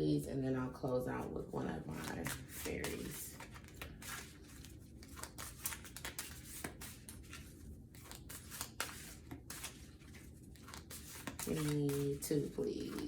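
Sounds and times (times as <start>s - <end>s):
cards being shuffled: 1.8s - 13.0s.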